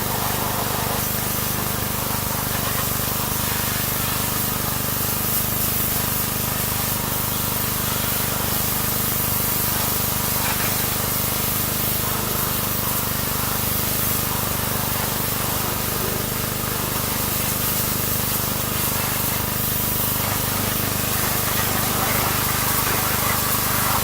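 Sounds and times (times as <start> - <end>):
pressure washer spray hiss: 0.0 - 24.0
pump humming: 0.0 - 24.0.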